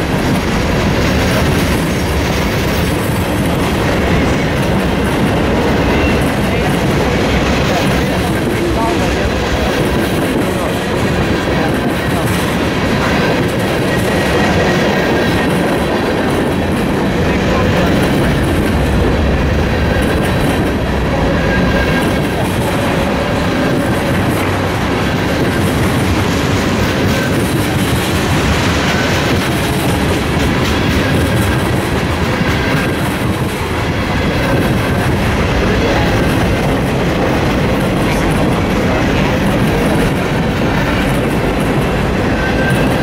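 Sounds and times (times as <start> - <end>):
train cars rumbling: 0.0 - 43.0.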